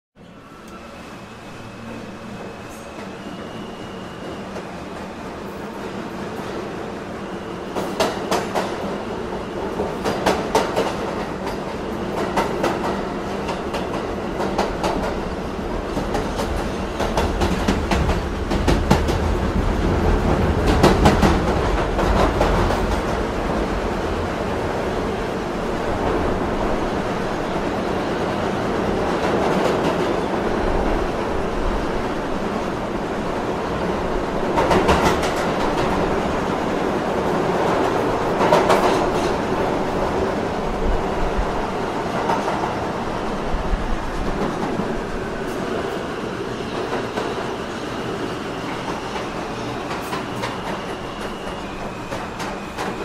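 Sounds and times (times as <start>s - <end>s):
subway train rumbling: 0.2s - 53.0s.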